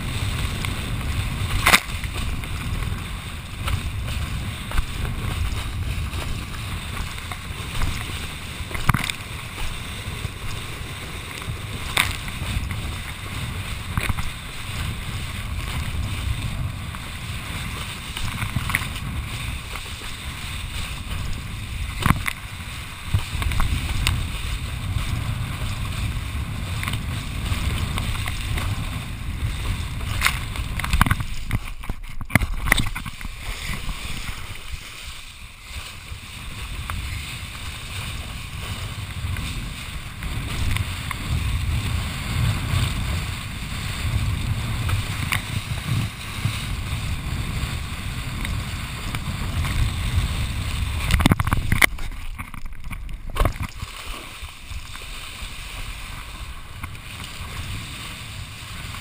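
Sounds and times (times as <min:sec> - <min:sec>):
water rushing and slapping: 0:00.0 - 0:59.0
water washing over camera: 0:00.0 - 0:59.0
wind buffeting microphone: 0:00.0 - 0:59.0.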